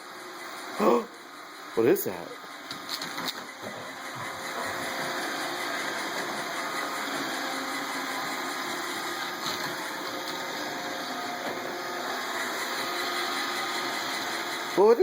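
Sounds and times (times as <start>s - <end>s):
robot vacuum whirring: 1.9s - 15.0s.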